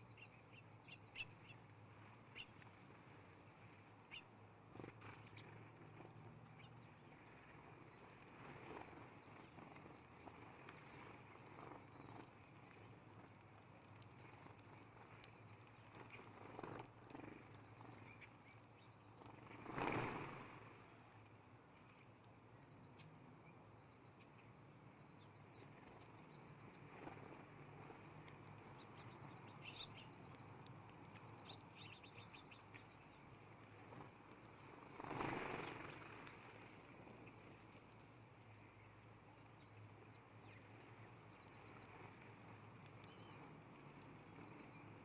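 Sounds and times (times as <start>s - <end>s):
small birds chirping: 0.0s - 21.0s, 21.7s - 45.0s.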